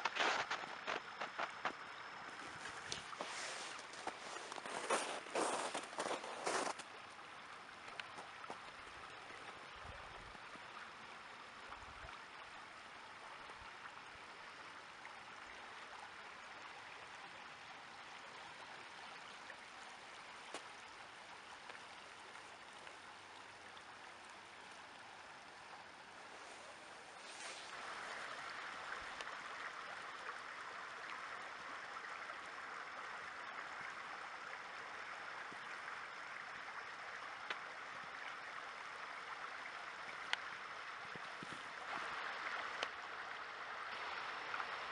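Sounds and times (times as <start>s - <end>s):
river water rushing: 0.0s - 9.7s, 18.2s - 44.9s.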